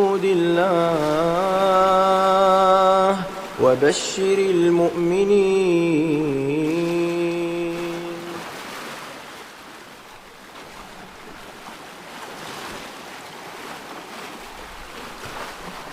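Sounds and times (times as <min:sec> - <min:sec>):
ocean waves washing: 0:00.0 - 0:15.9.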